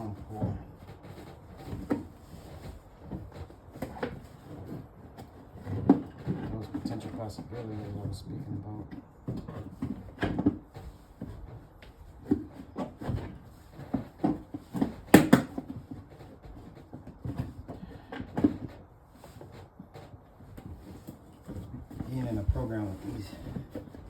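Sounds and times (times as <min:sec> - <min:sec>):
bucket being handled: 0:00.0 - 0:24.0.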